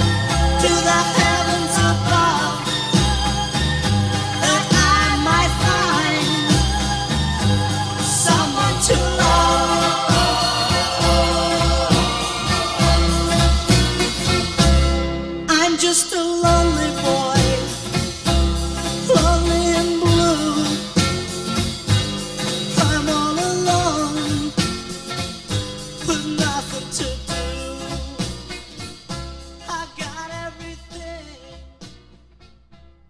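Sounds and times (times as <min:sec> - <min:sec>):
oldies pop song: 0:00.0 - 0:32.7.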